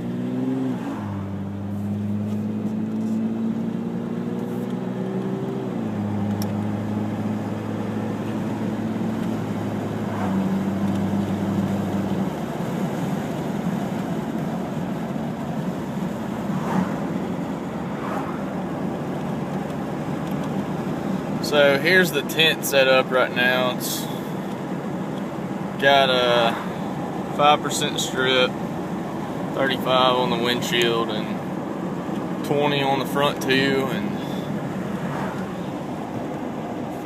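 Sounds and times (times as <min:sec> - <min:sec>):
car engine droning: 0:00.0 - 0:37.0
road noise: 0:00.0 - 0:37.0.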